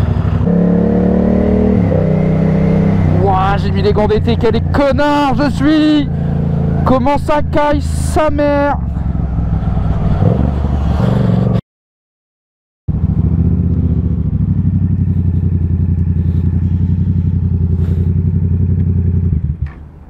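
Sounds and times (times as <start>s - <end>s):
motorcycle engine at low revs: 0.0s - 11.6s, 12.9s - 20.0s.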